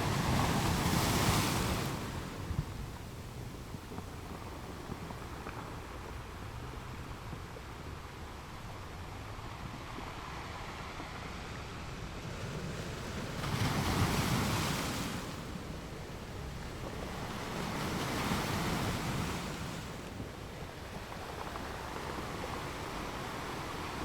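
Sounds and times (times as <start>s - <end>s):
ocean waves breaking on shore: 0.0s - 6.4s, 8.4s - 24.0s.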